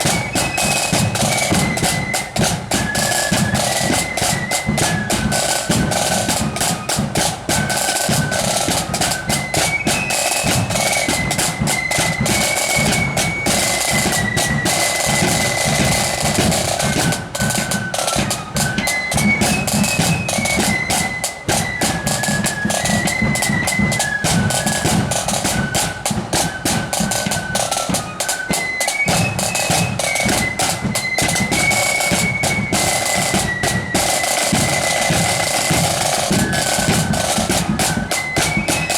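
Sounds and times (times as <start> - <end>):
snare drumming: 0.0 - 38.9.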